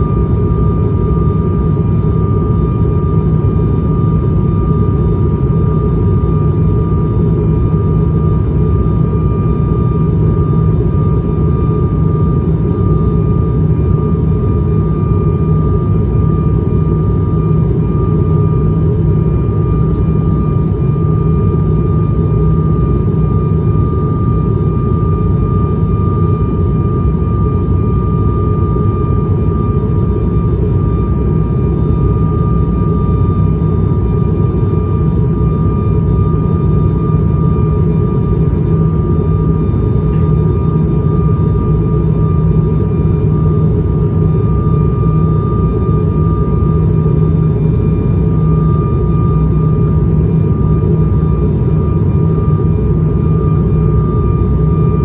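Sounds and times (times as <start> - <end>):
turboprop cabin drone: 0.0 - 55.0.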